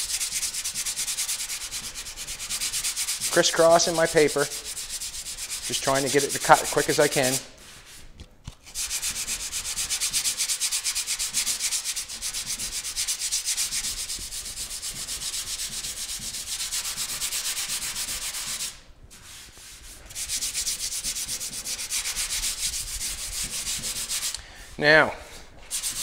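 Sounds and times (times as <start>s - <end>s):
sandpaper sanding: 0.0s - 24.4s, 25.6s - 26.0s.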